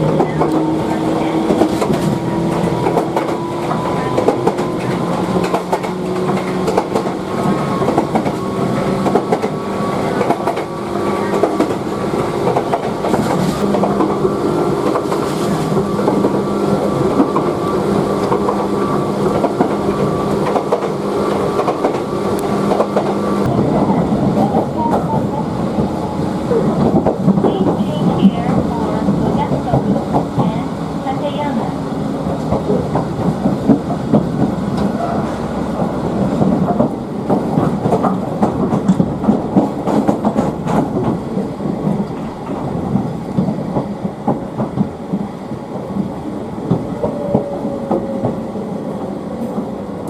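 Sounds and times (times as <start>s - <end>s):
electric train hum: 0.0s - 50.0s
train wheels rattling: 0.0s - 50.0s.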